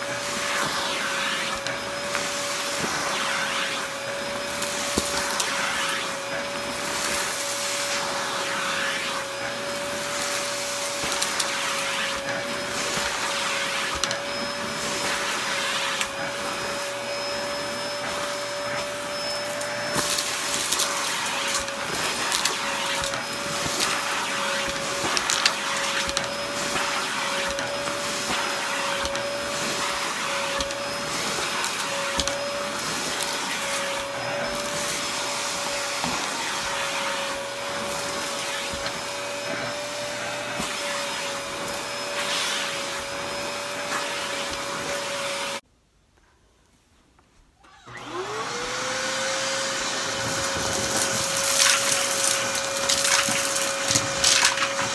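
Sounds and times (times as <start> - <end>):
vacuum cleaner whining: 0.0 - 45.6, 47.6 - 54.9
debris crackling up vacuum wand: 0.2 - 45.5, 49.2 - 54.9.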